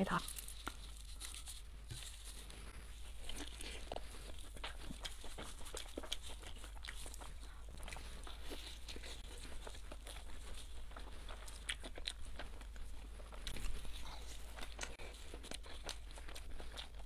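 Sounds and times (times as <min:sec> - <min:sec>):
crunching fried crust: 0:00.1 - 0:17.0.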